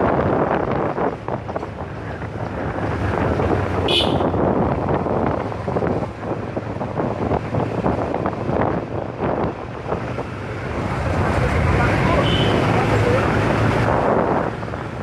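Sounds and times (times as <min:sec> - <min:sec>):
motorcycle engine hum: 0:00.0 - 0:15.0
wind buffeting microphone: 0:00.0 - 0:15.0.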